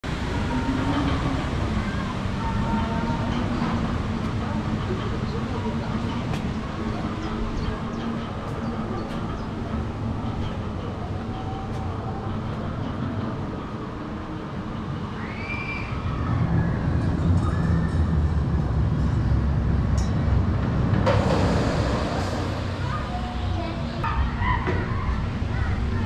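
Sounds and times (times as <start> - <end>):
roller coaster train rumbling: 0.0 - 26.0.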